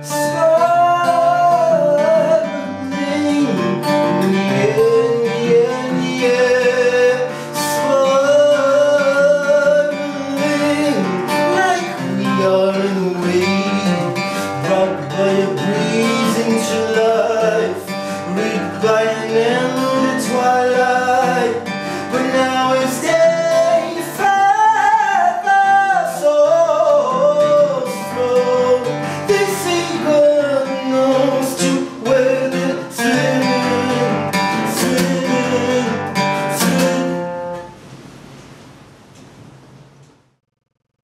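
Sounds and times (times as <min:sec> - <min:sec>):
man singing: 0:00.0 - 0:37.2
strummed acoustic guitar: 0:00.0 - 0:38.3.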